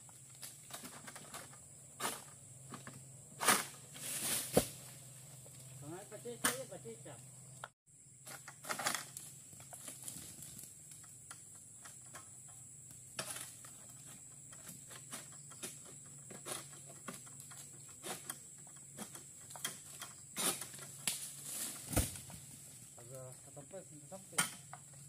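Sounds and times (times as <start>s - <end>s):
harvesting sickle clicks and knocks: 0.1s - 6.8s, 7.6s - 22.5s, 24.2s - 24.9s.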